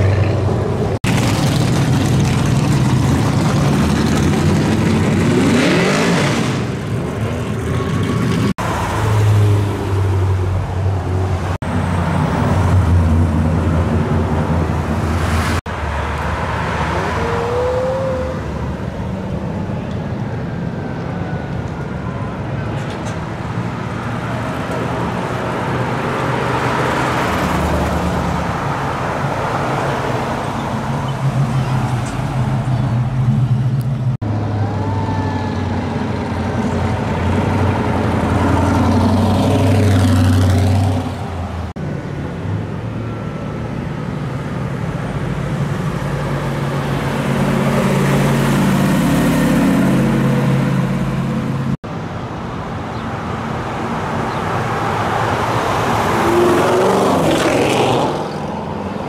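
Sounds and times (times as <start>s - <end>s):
vehicles driving past: 0.0s - 59.0s.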